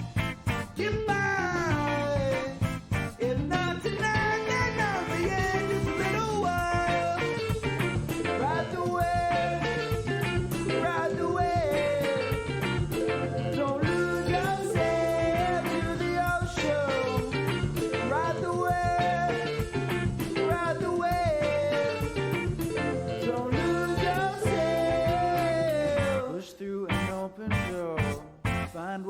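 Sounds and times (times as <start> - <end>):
drums steady beat: 0.0 - 26.2, 26.9 - 28.8
sliding melodic lead line: 0.0 - 26.3, 26.9 - 28.7.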